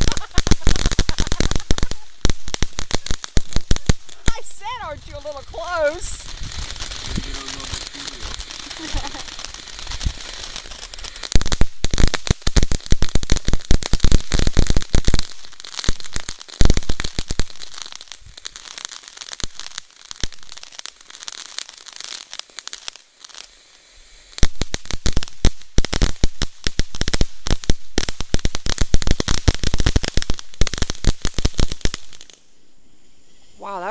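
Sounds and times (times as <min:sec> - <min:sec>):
fireworks cracking and popping: 0:00.0 - 0:32.5.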